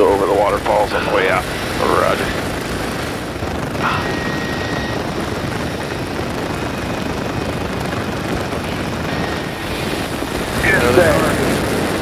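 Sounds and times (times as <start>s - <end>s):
faint high whine: 0.0s - 12.0s
helicopter engine and rotor drone: 0.0s - 12.0s.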